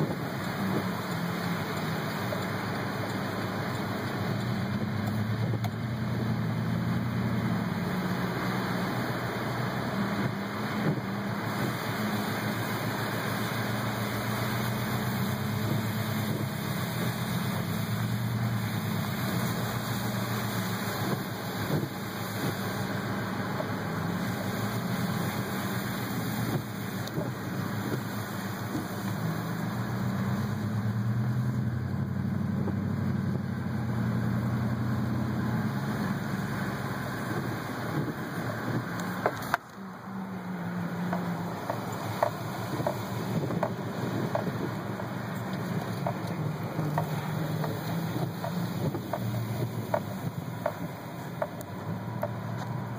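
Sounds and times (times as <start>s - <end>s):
car engine and tyres hum: 0.0s - 52.9s.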